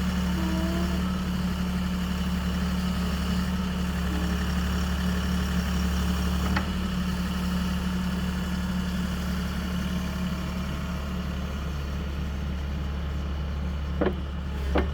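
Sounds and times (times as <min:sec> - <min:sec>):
backhoe engine idling: 0:00.0 - 0:14.9.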